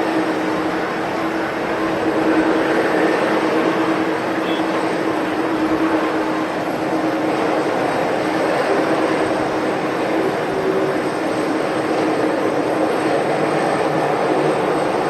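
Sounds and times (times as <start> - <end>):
jet engines humming: 0.0 - 15.0.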